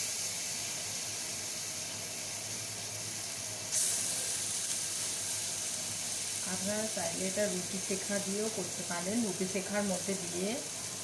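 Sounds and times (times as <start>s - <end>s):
butter sizzling on a hot pan: 0.0s - 11.0s.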